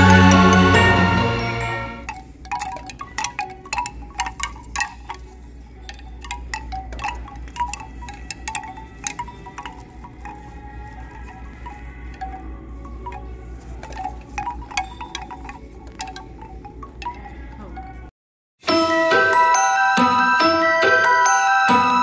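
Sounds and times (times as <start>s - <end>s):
background music: 0.0s - 2.1s, 6.2s - 22.0s
bamboo wind chimes clacking: 0.0s - 22.0s.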